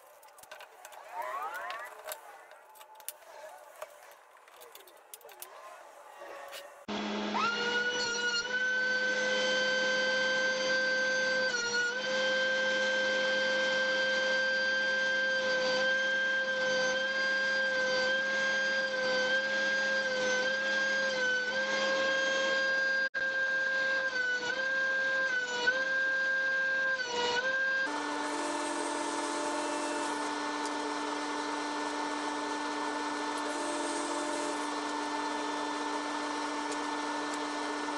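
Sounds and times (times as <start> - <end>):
thickness planer whining: 0.0 - 37.9.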